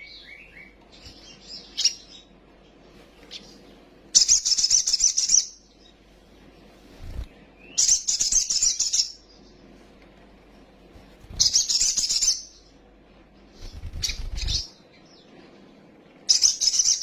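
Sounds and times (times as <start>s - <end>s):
bird twittering song: 0.0s - 6.0s, 7.0s - 9.7s, 11.2s - 12.8s, 13.4s - 17.0s
faint bird chirp: 0.0s - 6.2s, 6.9s - 9.9s, 11.2s - 12.8s, 13.4s - 17.0s.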